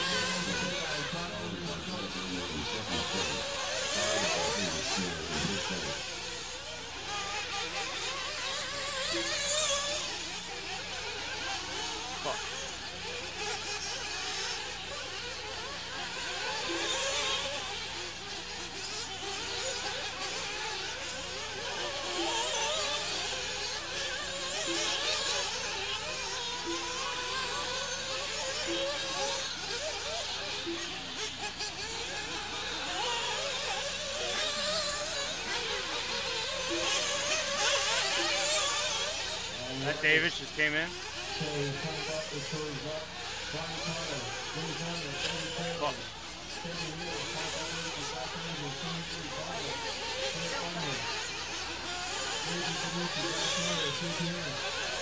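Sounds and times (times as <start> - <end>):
rc car engines buzzing: 0.0 - 55.0.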